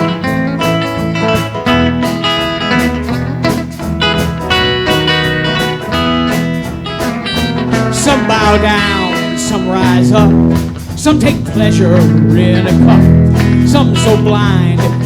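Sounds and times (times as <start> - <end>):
band playing instrumental: 0.0 - 15.0
lead guitar: 0.0 - 15.0.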